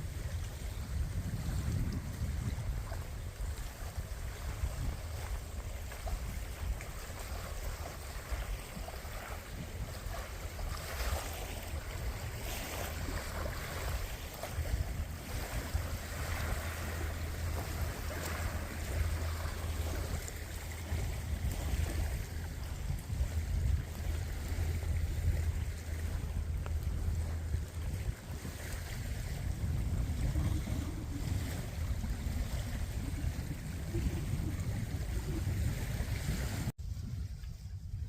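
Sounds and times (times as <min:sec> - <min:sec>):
water rushing: 0:00.0 - 0:36.7
wind buffeting microphone: 0:00.0 - 0:38.0.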